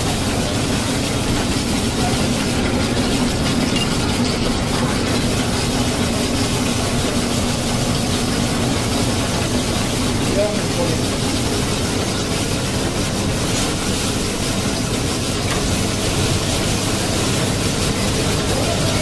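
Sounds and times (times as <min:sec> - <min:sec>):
ice-shaving machine humming: 0:00.0 - 0:19.0.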